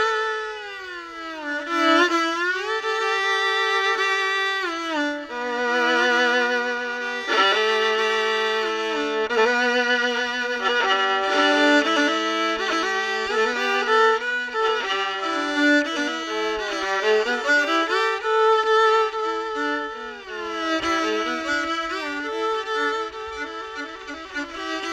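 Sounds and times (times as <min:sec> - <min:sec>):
slow violin melody: 0:00.0 - 0:24.9.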